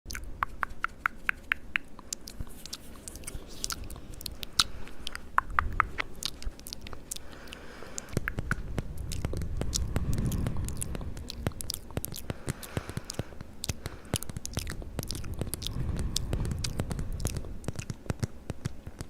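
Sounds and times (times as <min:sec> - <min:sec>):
wet mouth clicks and lip smacks: 0:00.1 - 0:19.0
low handling rumble: 0:02.2 - 0:18.7.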